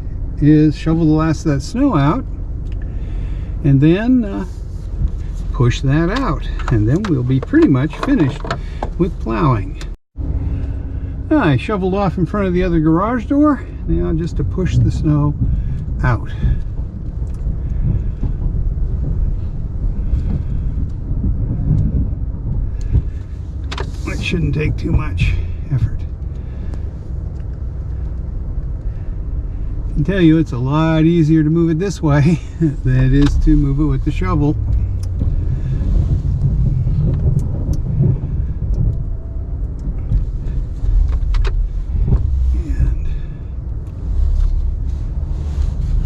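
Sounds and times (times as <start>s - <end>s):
truck engine rumbling: 0.0s - 46.0s.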